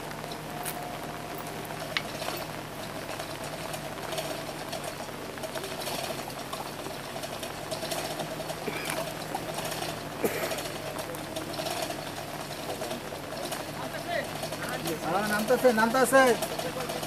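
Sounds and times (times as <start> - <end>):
machine rattling and humming: 0.0 - 17.0.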